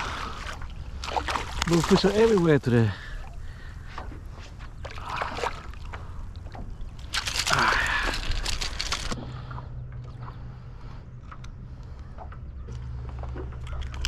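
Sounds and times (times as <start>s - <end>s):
water sloshing against kayak: 0.0s - 14.0s.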